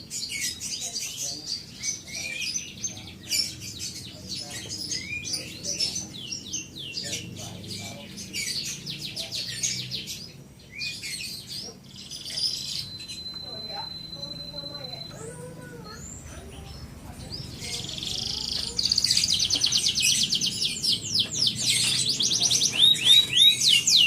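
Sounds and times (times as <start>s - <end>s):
canary trilling song: 0.0s - 24.0s.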